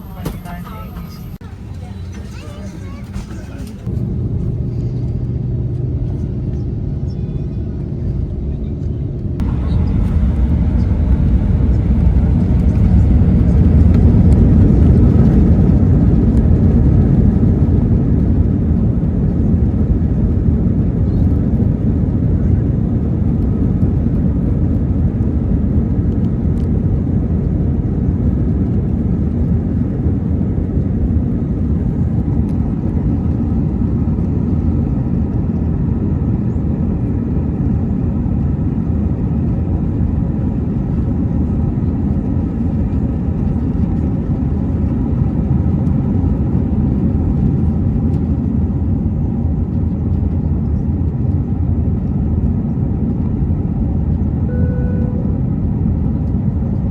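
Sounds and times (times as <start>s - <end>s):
airliner cabin engine rumble: 0.0s - 56.9s.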